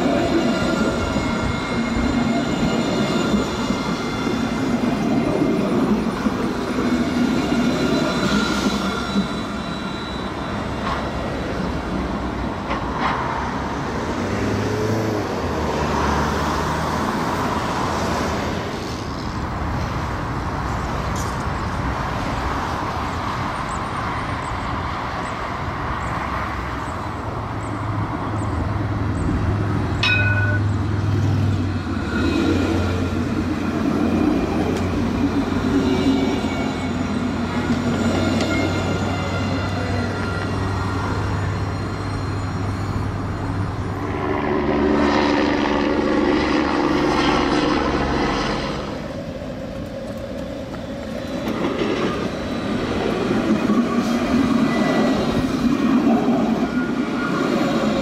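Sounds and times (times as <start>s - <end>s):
road traffic: 0.0s - 58.0s
tram rolling on rails: 0.0s - 58.0s.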